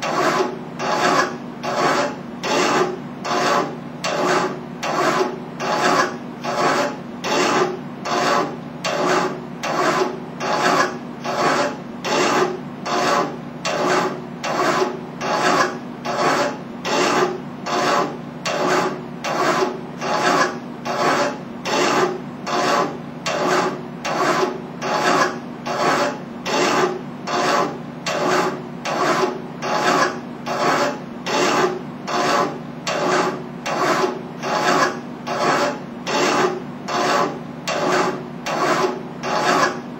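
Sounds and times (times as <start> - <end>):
file rasping on metal: 0.0 - 39.9.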